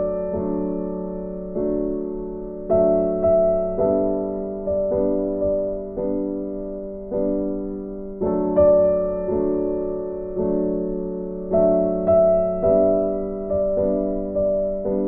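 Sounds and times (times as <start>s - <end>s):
slow piano keyboard piece: 0.0s - 15.0s.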